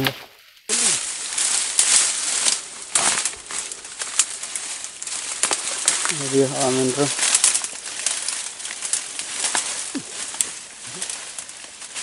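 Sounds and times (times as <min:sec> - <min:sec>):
leaves and brush rustling: 0:00.0 - 0:12.0.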